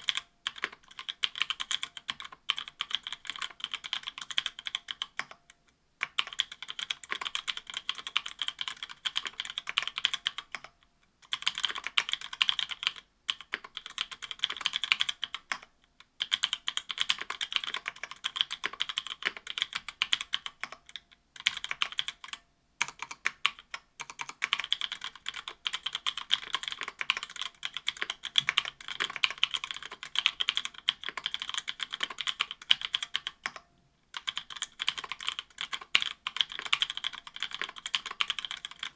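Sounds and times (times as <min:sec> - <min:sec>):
fast typing on mechanical keyboard: 0:00.0 - 0:05.4, 0:06.0 - 0:10.7, 0:11.3 - 0:38.9.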